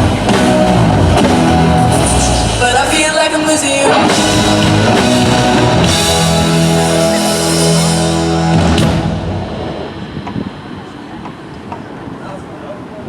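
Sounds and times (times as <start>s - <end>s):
live band with electric guitar: 0.0s - 13.0s.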